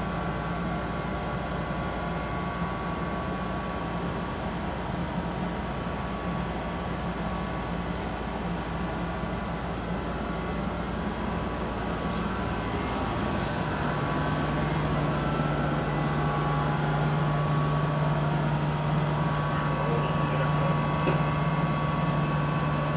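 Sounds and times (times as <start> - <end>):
ship engines droning: 0.0 - 22.9.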